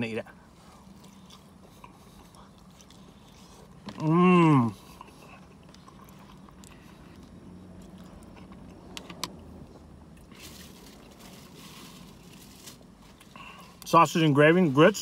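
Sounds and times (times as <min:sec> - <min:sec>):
soft chewing: 0:00.3 - 0:13.9.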